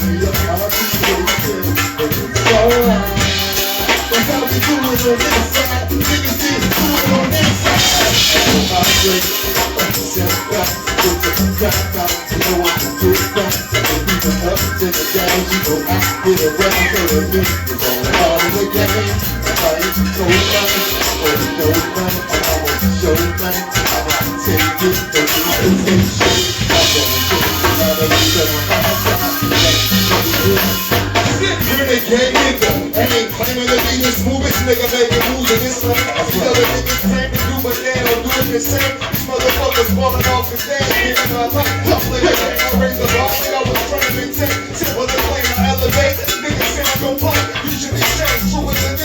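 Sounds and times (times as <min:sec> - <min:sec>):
bass line: 0:00.0 - 0:49.0
live band music: 0:00.0 - 0:49.0
percussion: 0:00.0 - 0:49.0.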